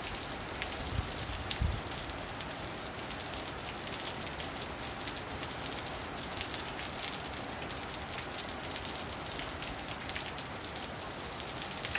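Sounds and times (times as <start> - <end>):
steady rain hiss: 0.0 - 11.9.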